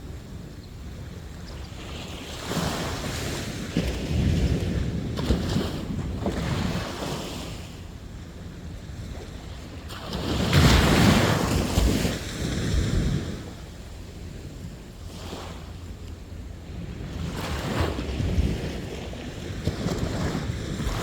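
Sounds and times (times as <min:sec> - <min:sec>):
sea waves breaking on beach: 0:01.8 - 0:15.9, 0:16.6 - 0:21.0.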